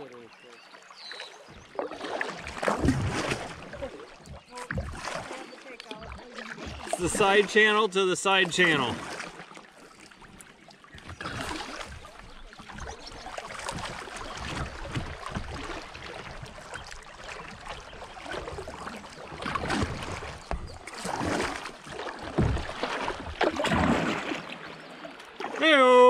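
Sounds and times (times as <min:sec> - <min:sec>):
paddle splashing in water: 0:00.0 - 0:26.0.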